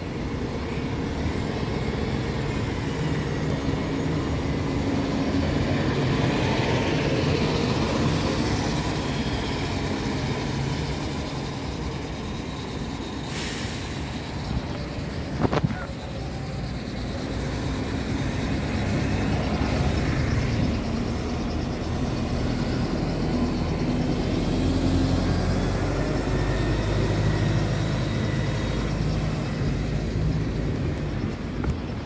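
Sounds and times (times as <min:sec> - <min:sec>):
bus engine rumble: 0:00.0 - 0:32.0.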